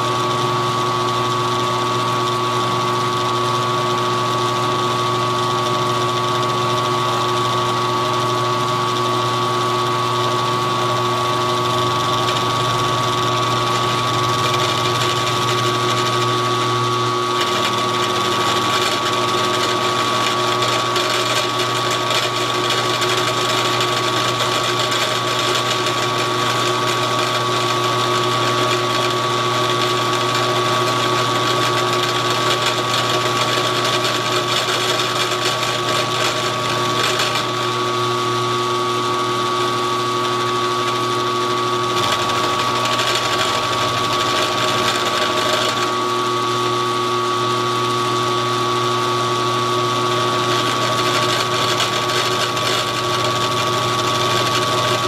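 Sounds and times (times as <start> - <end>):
cutter cutting metal: 0.0 - 55.0
mill motor whine: 0.0 - 55.0.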